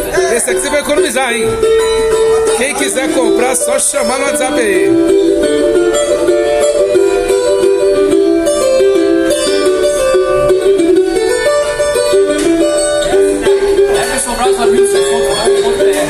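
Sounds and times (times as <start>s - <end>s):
small guitar plucked notes and chords: 0.0s - 16.0s.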